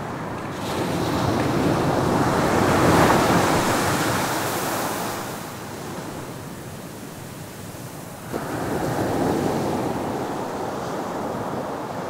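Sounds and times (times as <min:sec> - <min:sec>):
waves breaking on beach: 0:00.1 - 0:12.0.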